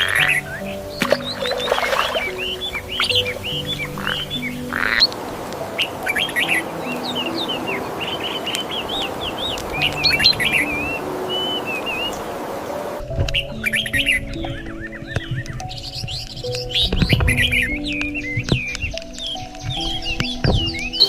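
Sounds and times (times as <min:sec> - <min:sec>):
small birds chirping: 0:00.0 - 0:21.0
soft background music: 0:00.0 - 0:21.0.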